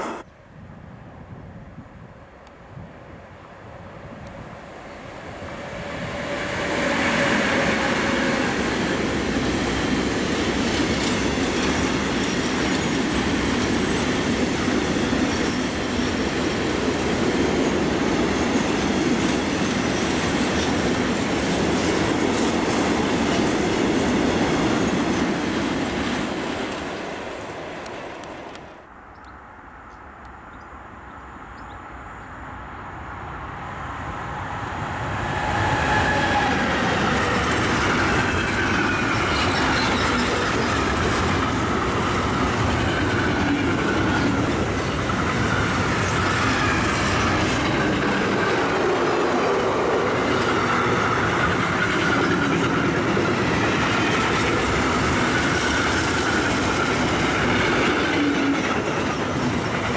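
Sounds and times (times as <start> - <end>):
freight train wheels on rails: 0.0 - 0.4, 2.4 - 28.9, 33.4 - 59.9
distant freight train rumble: 0.0 - 59.9
electric locomotive passing: 0.0 - 59.9.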